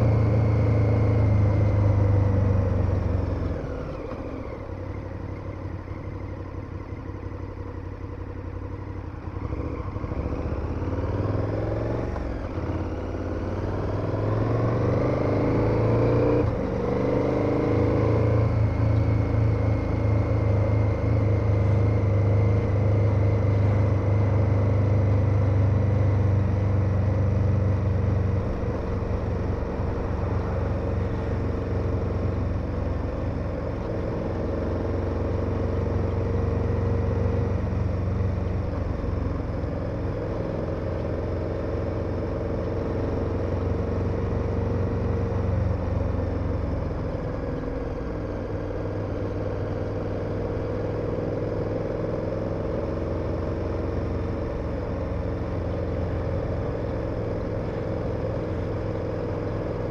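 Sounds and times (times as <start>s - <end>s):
motorcycle engine running: 0.0s - 59.9s
wind and road rush: 0.0s - 59.9s.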